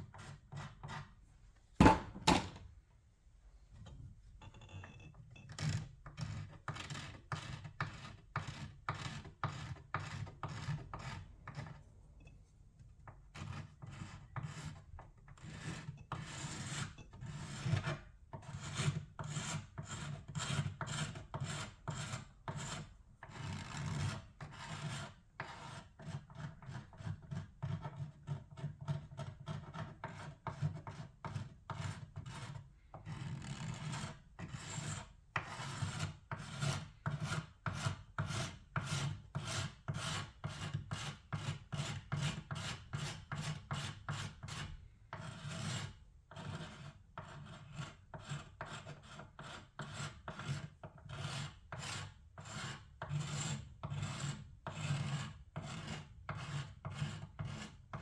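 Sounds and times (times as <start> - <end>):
rasping strokes on wood: 5.7 - 11.6, 15.4 - 58.0.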